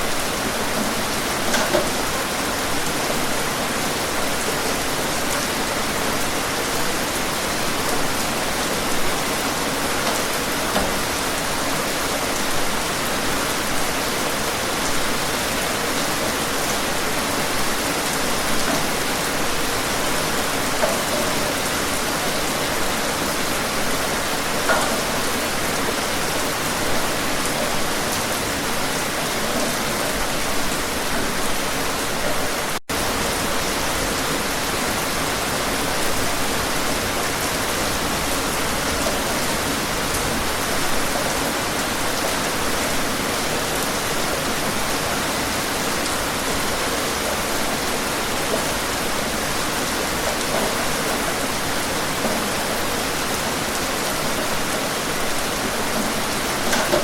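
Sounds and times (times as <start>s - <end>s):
dense rainfall hiss: 0.0s - 57.0s.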